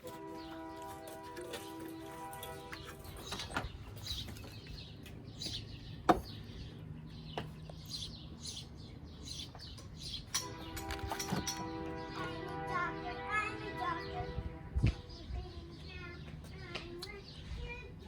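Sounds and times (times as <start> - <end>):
small birds chirping: 0.3 - 18.0.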